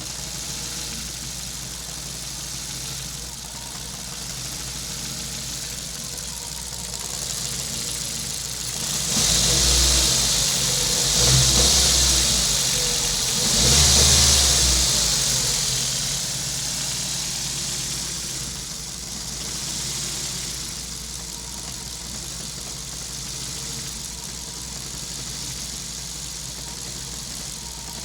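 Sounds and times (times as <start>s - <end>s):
car engine rough idle: 0.0s - 28.0s.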